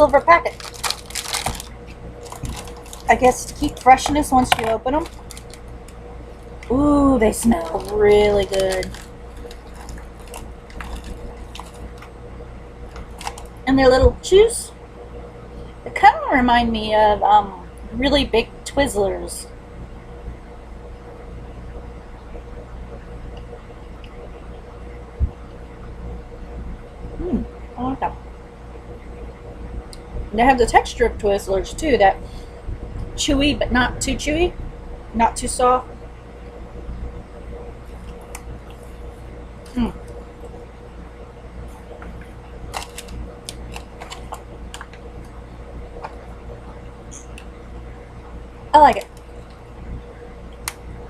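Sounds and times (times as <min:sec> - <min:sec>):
low room hum: 0:00.0 - 0:51.0.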